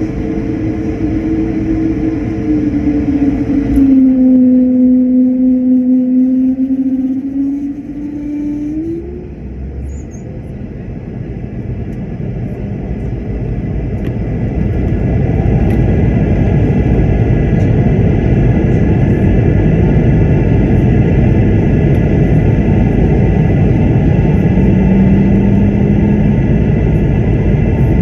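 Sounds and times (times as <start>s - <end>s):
faint high engine whine: 0.0s - 28.0s
jet engines roaring: 0.0s - 28.0s.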